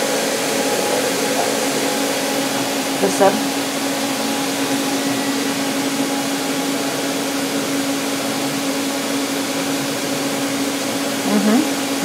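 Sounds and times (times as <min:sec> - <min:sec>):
lathe machine humming: 0:00.0 - 0:12.0.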